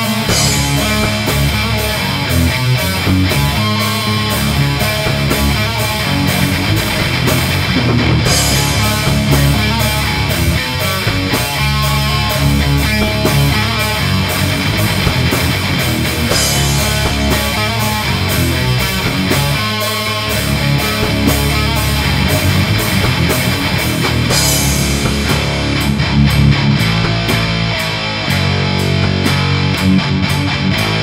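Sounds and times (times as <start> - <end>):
drum kit fast beat: 0.0 - 30.0
electric guitars: 0.0 - 31.0
cymbal crashes: 0.1 - 26.0.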